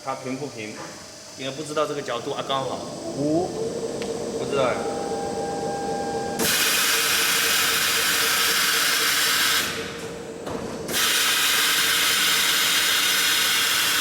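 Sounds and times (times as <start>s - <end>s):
cutting machine hissing: 0.2s - 10.0s, 10.9s - 14.0s.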